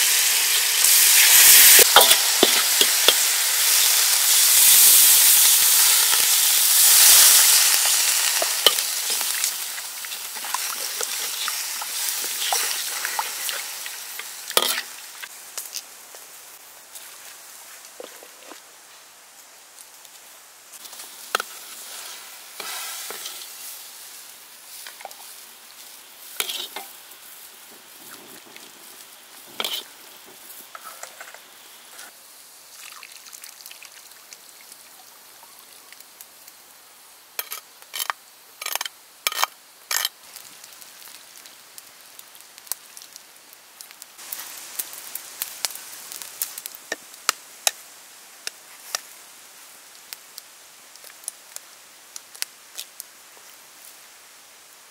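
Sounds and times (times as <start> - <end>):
sizzling hiss: 0.0 - 54.9.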